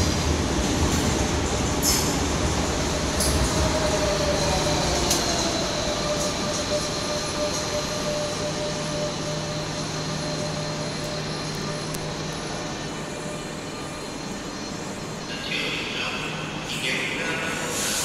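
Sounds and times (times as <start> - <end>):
electric train pulling out: 0.0 - 15.4.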